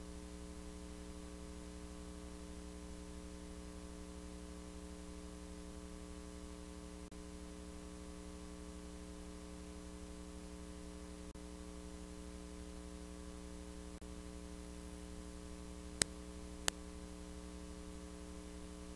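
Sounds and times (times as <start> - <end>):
electrical hum: 0.0 - 18.9.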